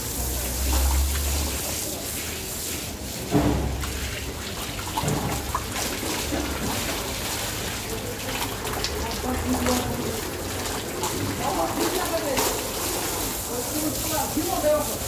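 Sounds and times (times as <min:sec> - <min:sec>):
hose water spraying and splashing: 0:00.0 - 0:15.0.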